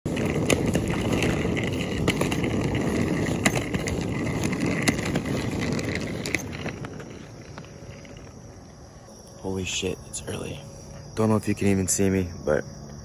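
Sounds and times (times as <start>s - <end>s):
night insects chirring: 0.1s - 13.0s.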